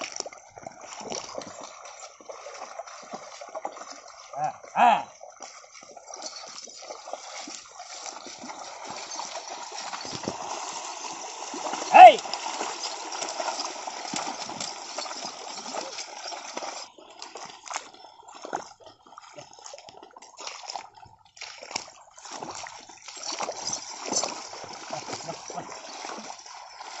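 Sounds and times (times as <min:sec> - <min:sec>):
splashing through mud and water: 0:00.0 - 0:27.0.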